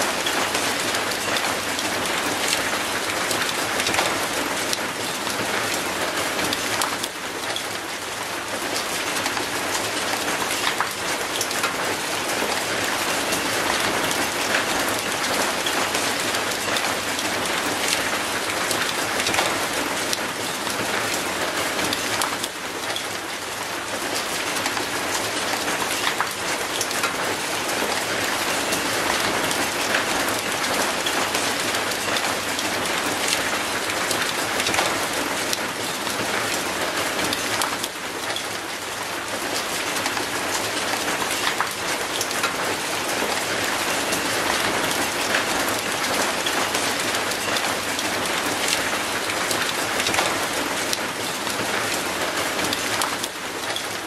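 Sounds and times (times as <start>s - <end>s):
raindrops ticking on metal: 0.0s - 54.0s.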